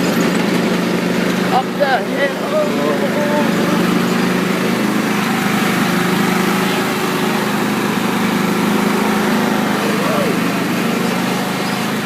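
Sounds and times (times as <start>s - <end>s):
riding lawn mower engine: 0.0s - 12.0s.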